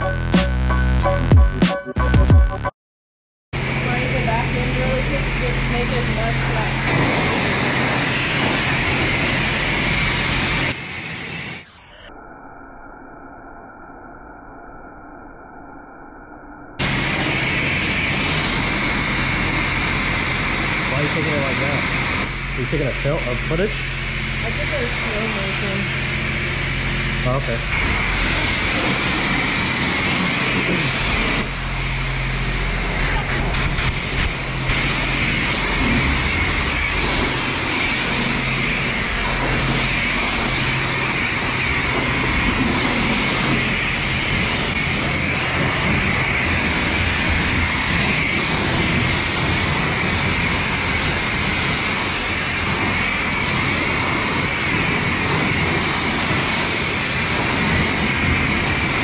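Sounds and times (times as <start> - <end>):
high-pressure water jets hissing: 3.6 - 11.9, 16.8 - 59.0
low hum: 3.6 - 59.0.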